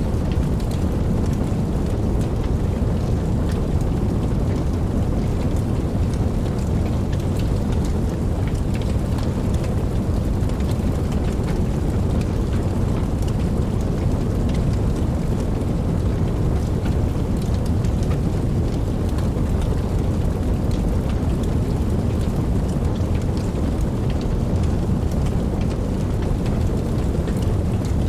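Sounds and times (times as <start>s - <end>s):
rain falling: 0.0s - 28.0s
raindrops ticking: 0.0s - 28.0s.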